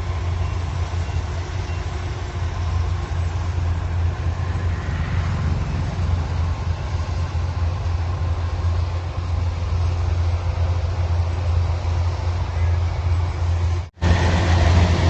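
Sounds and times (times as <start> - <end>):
machine engine humming: 0.0 - 15.0.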